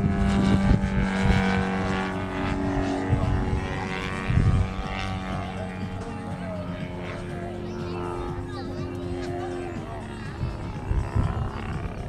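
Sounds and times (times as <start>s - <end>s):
wind rumbling on microphone: 0.0s - 7.1s, 7.9s - 12.0s
model plane engine running: 0.0s - 12.0s.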